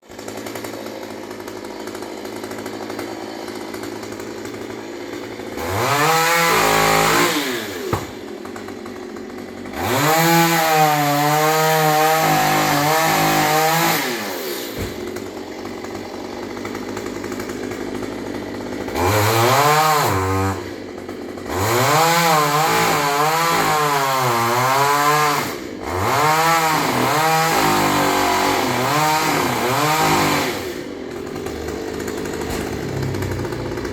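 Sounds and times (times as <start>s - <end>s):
chainsaw revving and cutting: 0.0s - 33.9s.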